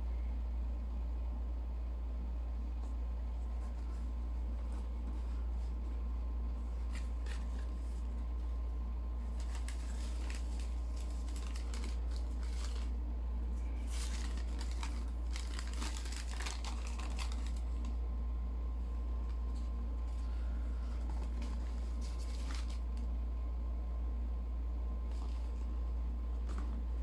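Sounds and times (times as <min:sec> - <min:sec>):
steady low hum: 0:00.0 - 0:27.0
paper crinkling and rustling: 0:02.8 - 0:18.0, 0:18.8 - 0:23.2, 0:25.0 - 0:27.0.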